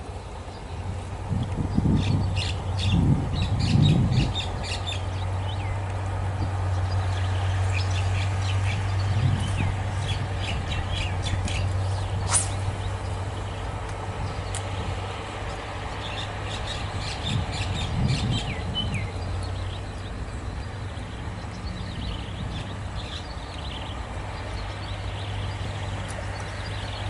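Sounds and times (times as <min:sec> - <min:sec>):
birds chirping: 0:00.1 - 0:27.0.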